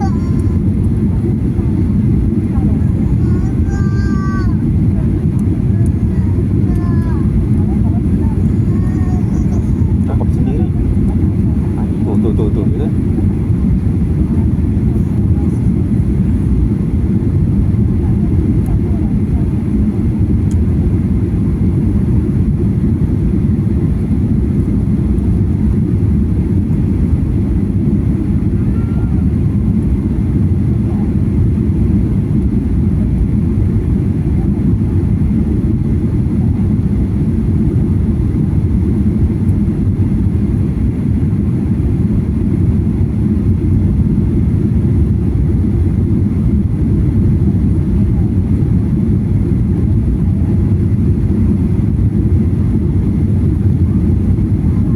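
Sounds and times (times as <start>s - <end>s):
airliner engine and airflow rumble: 0.0s - 54.9s.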